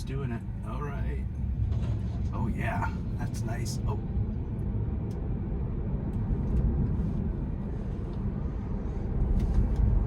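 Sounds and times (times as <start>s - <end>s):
road and tyre noise in car: 0.0s - 10.0s.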